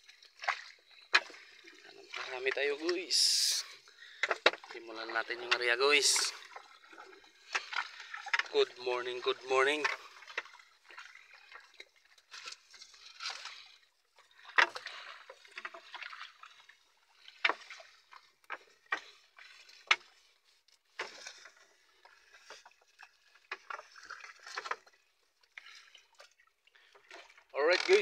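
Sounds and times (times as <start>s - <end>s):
paddle splashing in water: 0.0s - 28.0s
water sloshing: 0.0s - 28.0s.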